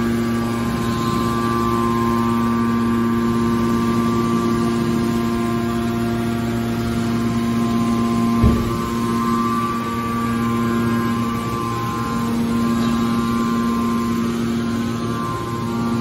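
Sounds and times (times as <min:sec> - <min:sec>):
hydraulic pump motor humming: 0:00.0 - 0:16.0.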